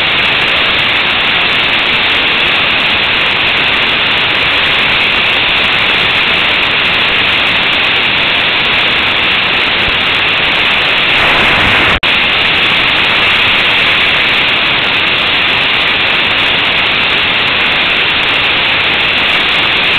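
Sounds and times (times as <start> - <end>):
wind rushing on microphone: 0.0 - 19.9.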